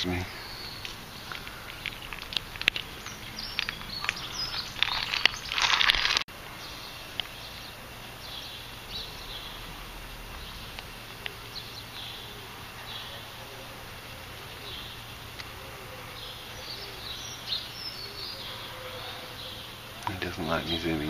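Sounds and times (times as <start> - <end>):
small birds chirping: 0.0 - 21.0
rustling: 0.1 - 20.6.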